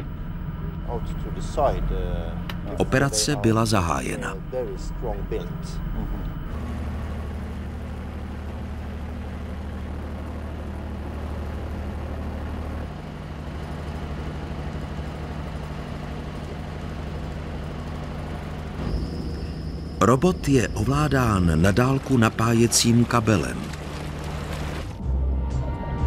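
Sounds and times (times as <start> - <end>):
heavy engine humming: 0.0 - 26.0.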